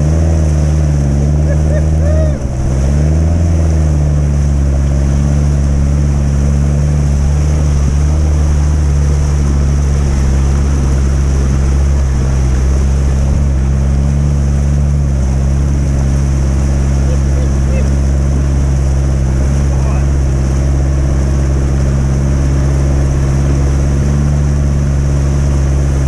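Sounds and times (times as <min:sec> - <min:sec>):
vehicle engine running under load: 0:00.0 - 0:26.0
water rushing and splashing: 0:00.0 - 0:26.0.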